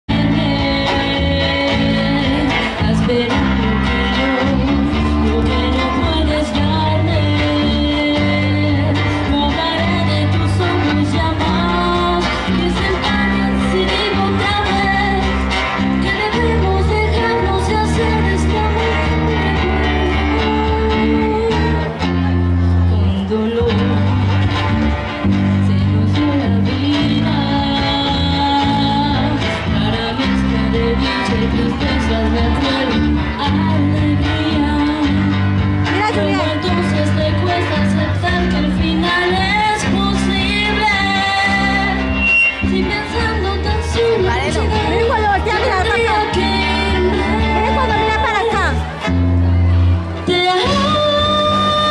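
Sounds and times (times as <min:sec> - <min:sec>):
bass guitar: 0:00.0 - 0:51.9
guitar: 0:00.0 - 0:51.9
woman singing into a microphone: 0:00.1 - 0:48.9, 0:50.2 - 0:51.9
live band playing: 0:00.1 - 0:51.9.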